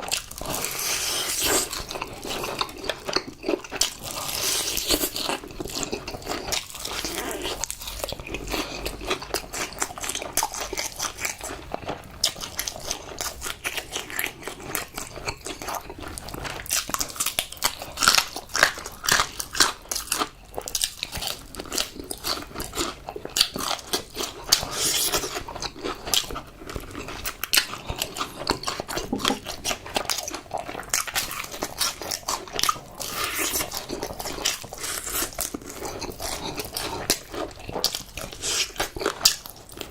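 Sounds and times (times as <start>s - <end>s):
crunching bites of fried food: 0.0s - 39.9s.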